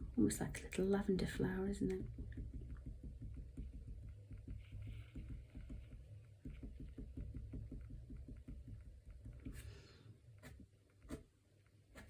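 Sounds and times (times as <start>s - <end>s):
paintbrush tapping on paper: 0.8s - 9.8s, 10.4s - 11.3s.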